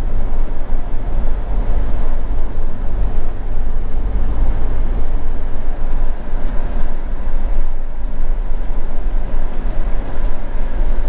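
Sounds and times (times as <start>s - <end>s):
motorhome engine and road rumble: 0.0s - 11.0s.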